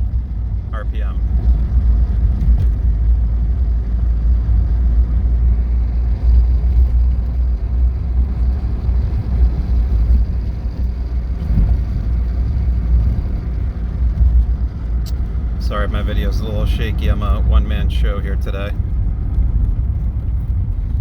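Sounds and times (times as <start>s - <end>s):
car engine low rumble: 0.0s - 21.0s
road noise: 0.0s - 21.0s.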